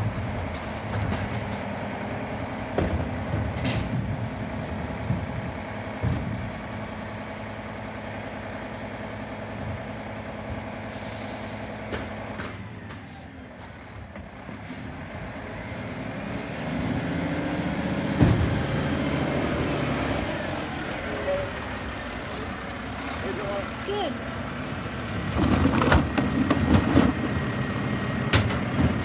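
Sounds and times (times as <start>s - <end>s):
garbage truck engine idling and revving: 0.0s - 29.0s.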